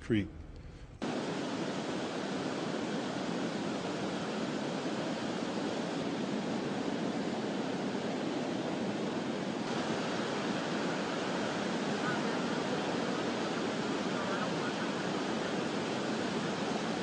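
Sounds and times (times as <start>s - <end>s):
floodwater rushing: 1.0s - 17.0s.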